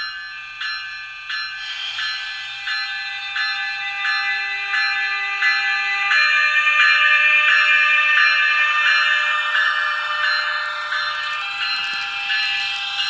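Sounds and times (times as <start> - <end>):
locomotive bell ringing: 0.0 - 13.0.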